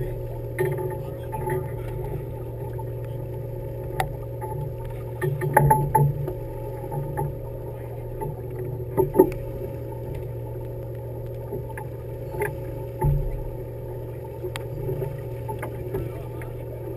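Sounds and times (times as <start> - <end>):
boat engine humming: 0.0 - 16.9.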